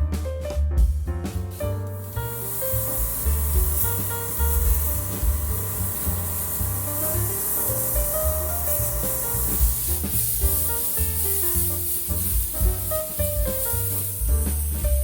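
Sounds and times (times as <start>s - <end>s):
background music with bass line: 0.0s - 15.0s.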